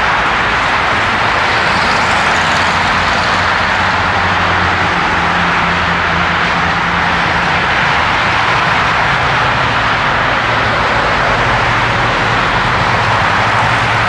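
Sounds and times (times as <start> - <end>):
roar of vehicle noise: 0.0 - 14.0.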